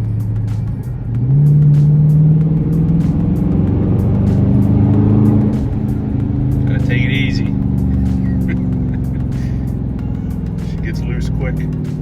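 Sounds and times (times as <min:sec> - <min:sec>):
background music: 0:00.0 - 0:12.0
car exhaust accelerating in tunnel: 0:00.0 - 0:12.0.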